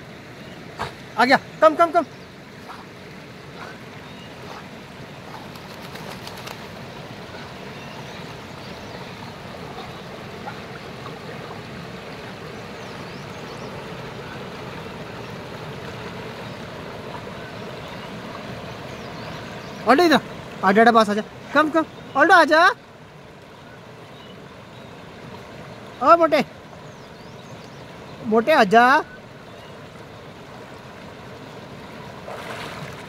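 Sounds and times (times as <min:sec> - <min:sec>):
stream rushing over rapids: 0:00.0 - 0:33.0.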